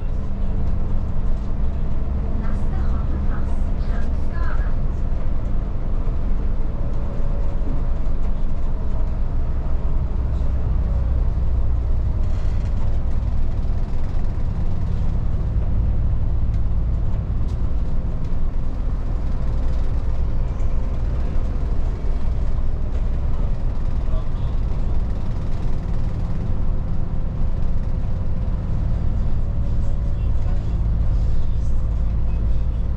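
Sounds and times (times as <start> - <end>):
bus engine drone: 0.0 - 32.9
road rumble: 0.0 - 32.9.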